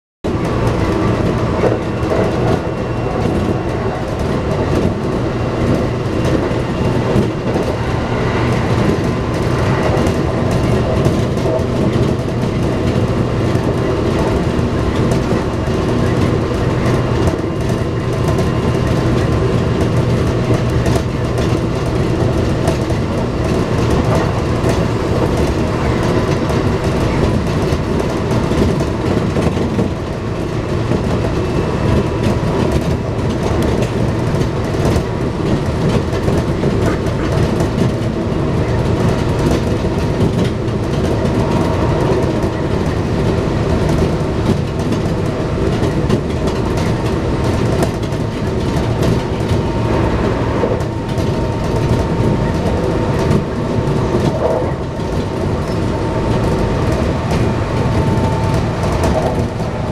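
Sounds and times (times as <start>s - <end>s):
train wheels rumbling on rails: 0.2s - 59.9s.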